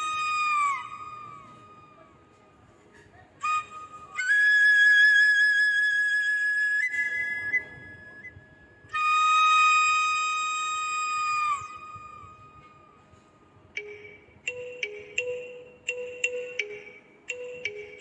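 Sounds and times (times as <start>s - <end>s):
flute playing held notes: 0.0s - 18.0s.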